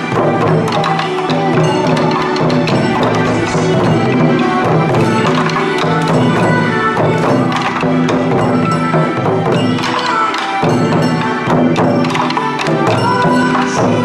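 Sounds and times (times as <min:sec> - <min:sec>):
clicking percussion beat: 0:00.0 - 0:14.0.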